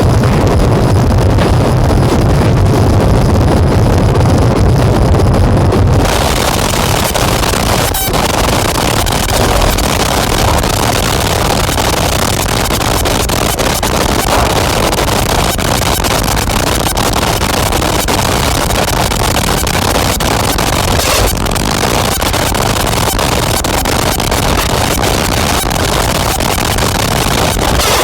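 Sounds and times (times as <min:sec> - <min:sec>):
distorted synthesizer noise: 0:00.0 - 0:28.0.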